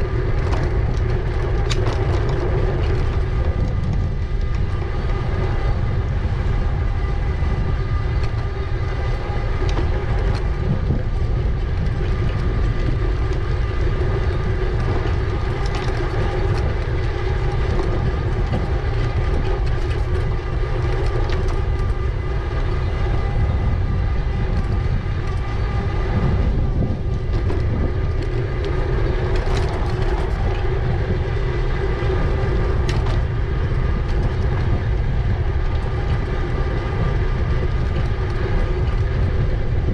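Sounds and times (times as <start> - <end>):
whine from bike drive: 0.0 - 39.9
wind rumble on microphone: 0.0 - 39.9.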